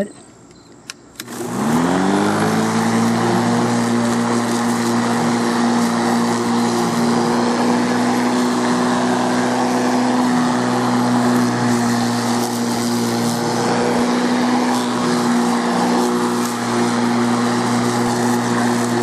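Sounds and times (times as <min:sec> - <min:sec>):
electric lawn mower motor whine: 0:01.1 - 0:19.0.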